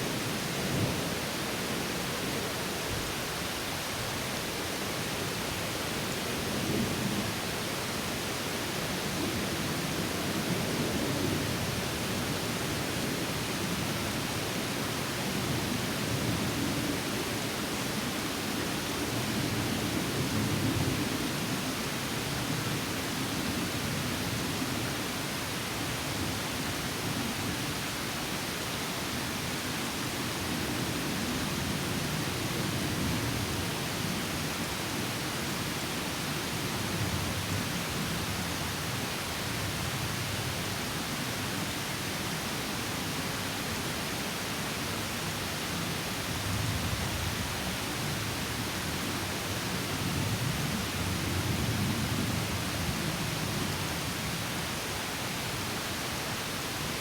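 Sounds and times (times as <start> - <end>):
stream over small waterfall: 0.0 - 57.0.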